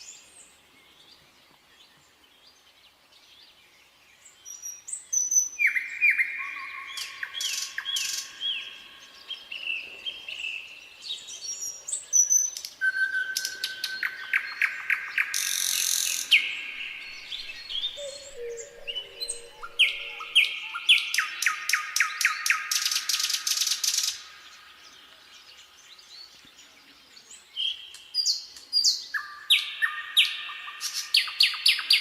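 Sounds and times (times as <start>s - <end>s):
nightingale singing: 4.2s - 32.0s.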